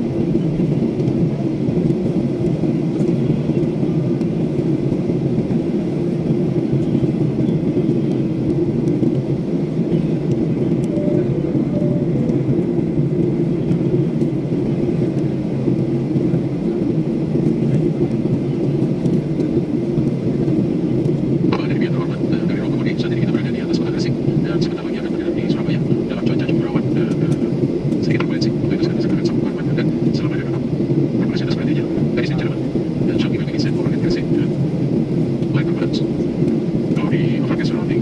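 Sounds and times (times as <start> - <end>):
jet engine rumble in cabin: 0.0 - 38.0.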